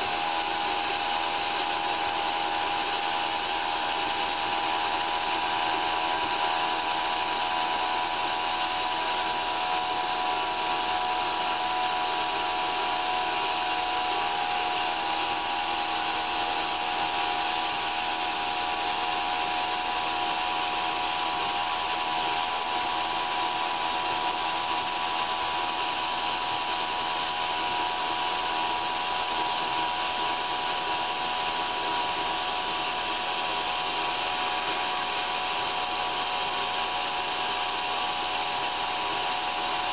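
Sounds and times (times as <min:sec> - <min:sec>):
sawmill whine cutting log: 0:00.0 - 0:39.9.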